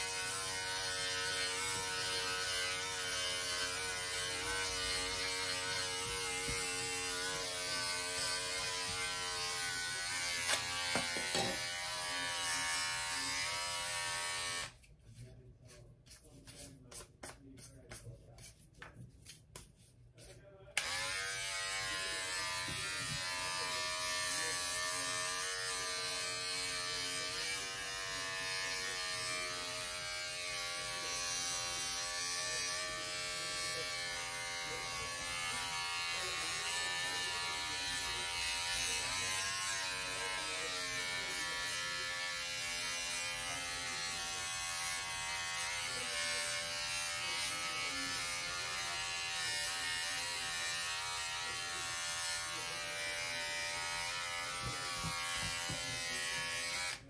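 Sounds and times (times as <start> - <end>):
electric shaver buzzing: 0.0 - 14.8, 20.8 - 57.0.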